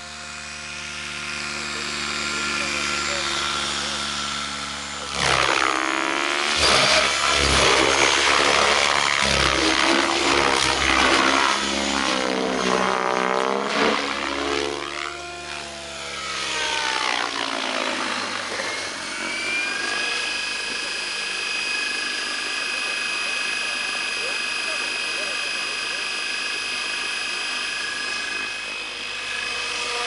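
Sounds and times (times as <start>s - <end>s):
rc helicopter rotor: 0.0s - 30.0s.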